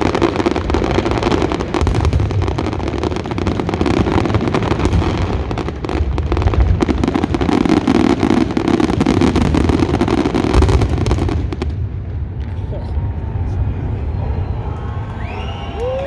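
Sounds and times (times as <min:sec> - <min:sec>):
firecrackers and fireworks exploding: 0:00.0 - 0:16.0.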